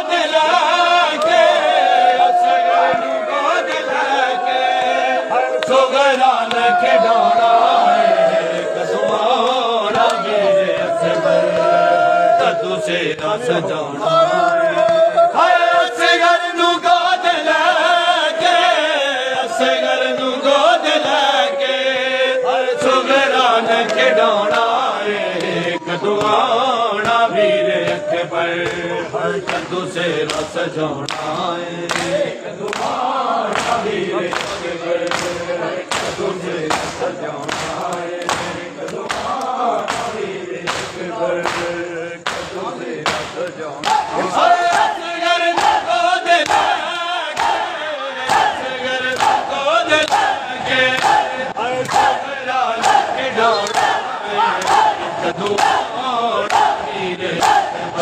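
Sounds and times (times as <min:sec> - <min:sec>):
person chanting a lament: 0:00.0 - 0:58.0.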